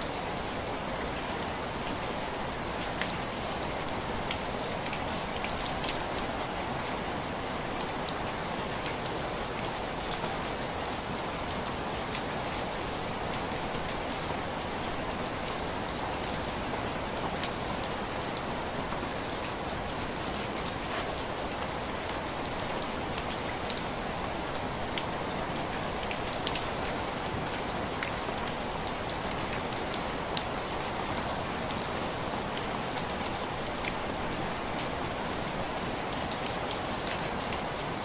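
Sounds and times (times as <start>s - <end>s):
rain ticking on window glass: 0.1s - 38.0s.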